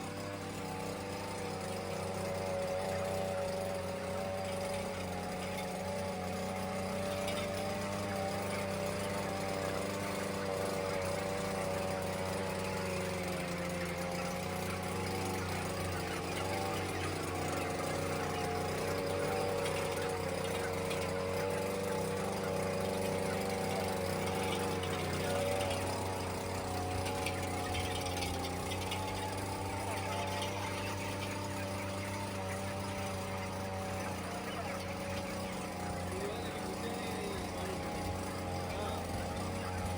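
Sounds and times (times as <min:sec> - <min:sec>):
ventilation fans humming: 0:00.0 - 0:39.9.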